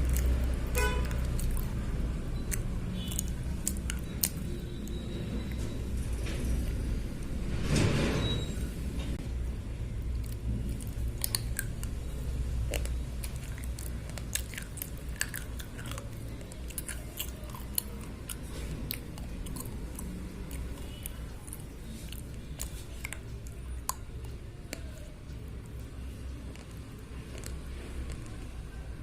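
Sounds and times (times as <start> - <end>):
pencils being chewed crunching: 0.0 - 5.7, 10.0 - 25.1, 25.7 - 28.7.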